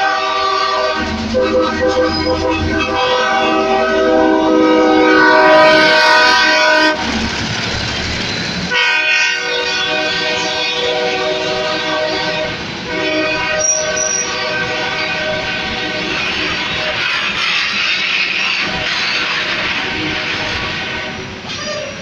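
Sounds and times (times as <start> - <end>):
locomotive air horn blasts: 0.0 - 7.1, 8.7 - 22.0
train rumble: 0.0 - 22.0.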